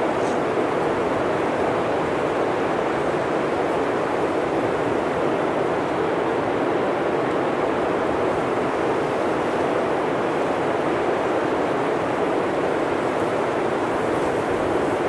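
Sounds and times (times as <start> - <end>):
blizzard wind through forest: 0.0 - 15.0.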